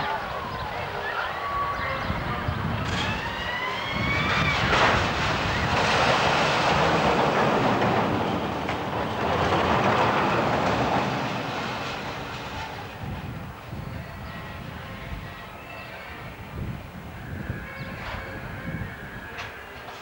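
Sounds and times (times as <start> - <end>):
roller coaster wheels rumbling on track: 0.0 - 20.0
roller coaster whine: 0.0 - 20.0.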